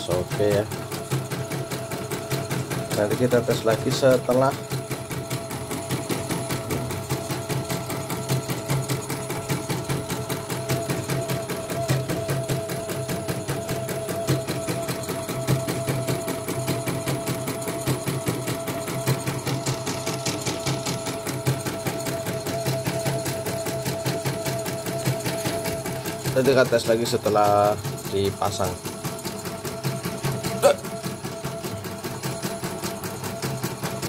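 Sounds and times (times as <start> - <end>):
embroidery machine needle clatter: 0.0 - 34.0
motor whine: 0.0 - 34.0.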